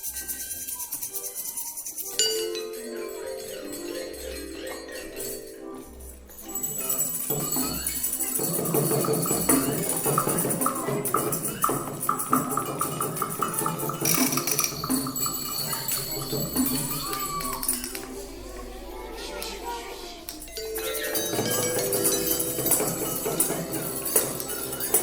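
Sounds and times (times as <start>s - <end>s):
jingling percussion beat: 0.0s - 25.0s
held musical tones: 2.2s - 25.0s.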